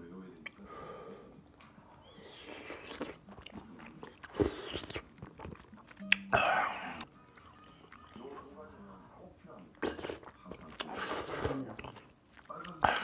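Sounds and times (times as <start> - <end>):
chewing and crunching: 1.6 - 13.0.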